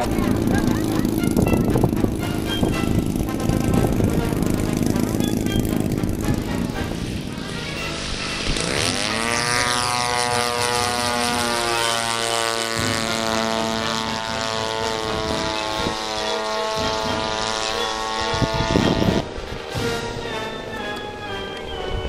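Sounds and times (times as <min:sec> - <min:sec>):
model plane propeller drone: 0:00.0 - 0:22.0.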